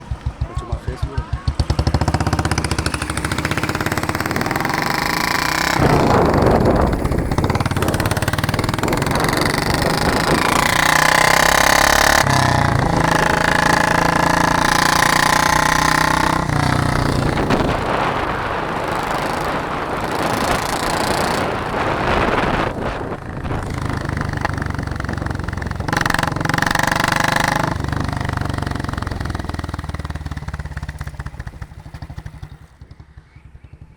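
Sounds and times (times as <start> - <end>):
engine running with rattle: 0.0 - 33.9.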